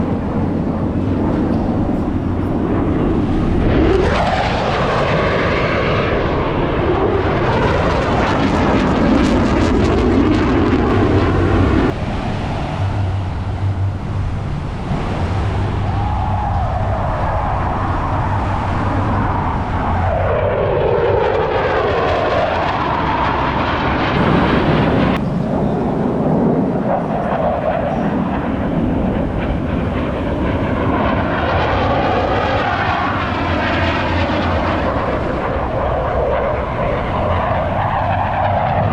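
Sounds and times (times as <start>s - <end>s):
fighter jets flying past: 0.0s - 38.9s.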